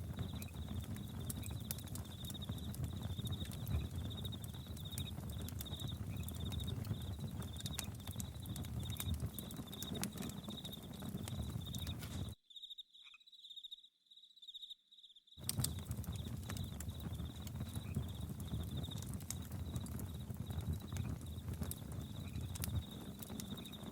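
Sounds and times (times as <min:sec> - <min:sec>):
campfire crackling and popping: 0:00.0 - 0:12.4, 0:15.4 - 0:23.9
crickets chirping: 0:00.1 - 0:23.9.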